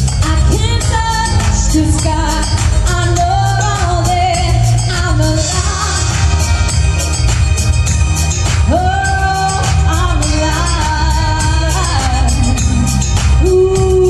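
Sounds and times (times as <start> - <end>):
woman singing into microphone: 0.0 - 6.8, 8.6 - 14.0
pop backing track: 0.0 - 14.0.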